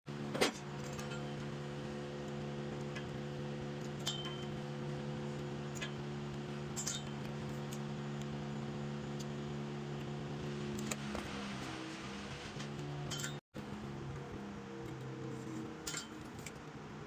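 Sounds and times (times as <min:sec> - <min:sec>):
low machine hum: 0:00.1 - 0:17.0.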